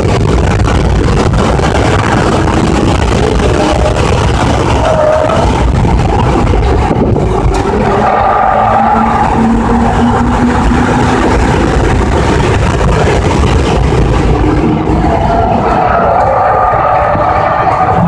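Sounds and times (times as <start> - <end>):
car engine under load: 0.0 - 18.0
road and wind rumble: 0.0 - 18.0.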